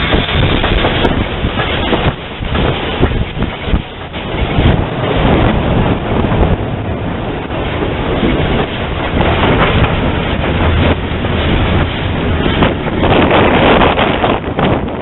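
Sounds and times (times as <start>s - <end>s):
steam locomotive running gear clatter: 0.0s - 15.0s.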